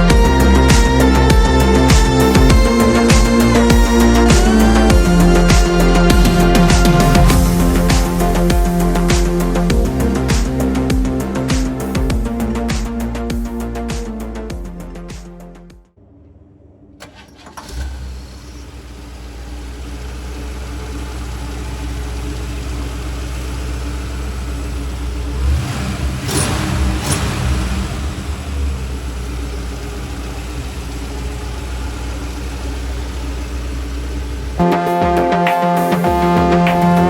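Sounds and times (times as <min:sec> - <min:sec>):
engine revving: 0:00.0 - 0:15.2, 0:16.0 - 0:37.0
car engine starting and idling: 0:00.0 - 0:37.0.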